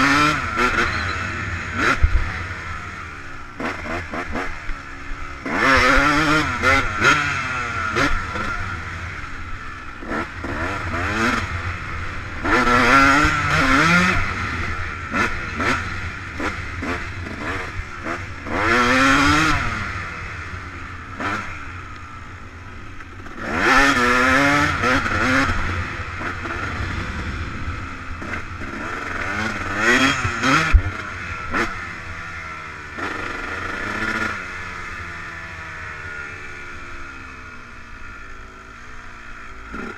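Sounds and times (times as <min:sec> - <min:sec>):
motocross bike revving: 0:00.0 - 0:39.9.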